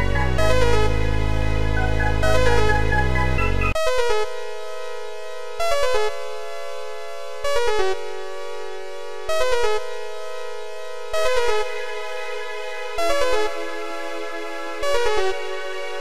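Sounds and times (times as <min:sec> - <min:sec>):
electronic music with synthesizer chords: 0:00.0 - 0:16.0.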